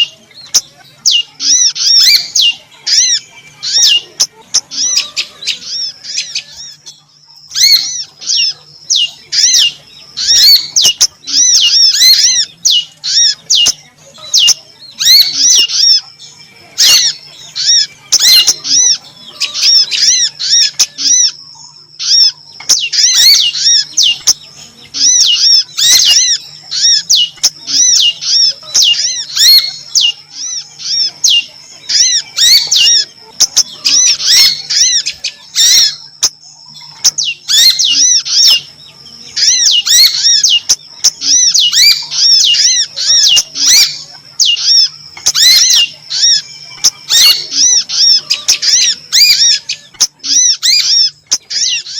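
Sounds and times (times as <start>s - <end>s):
songbird chirping: 0.0s - 51.9s.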